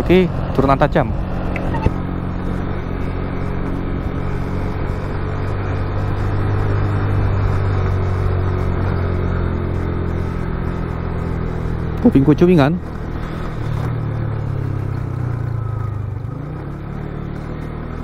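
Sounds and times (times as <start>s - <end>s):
motorcycle engine at low revs: 0.0s - 18.0s
wind and road noise: 0.0s - 18.0s.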